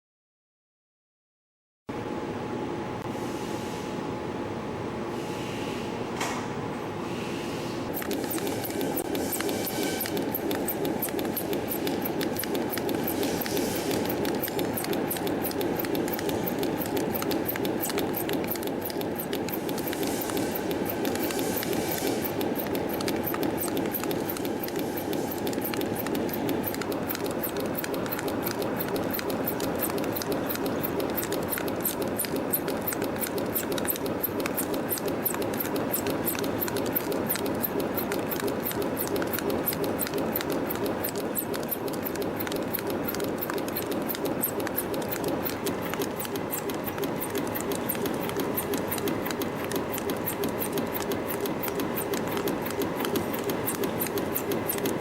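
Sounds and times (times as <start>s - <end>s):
spring-coiling machine rattling: 7.9s - 55.0s.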